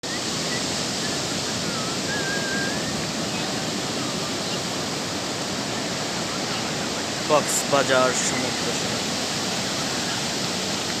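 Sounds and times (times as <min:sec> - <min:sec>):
surf breaking on beach: 0:00.1 - 0:11.0.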